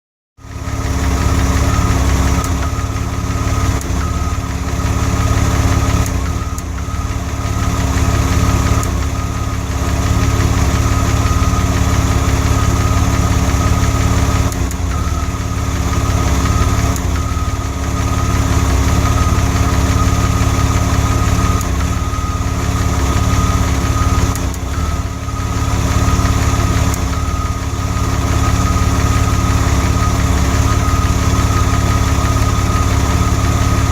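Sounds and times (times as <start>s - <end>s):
car engine idling with misfire: 0.4s - 33.9s.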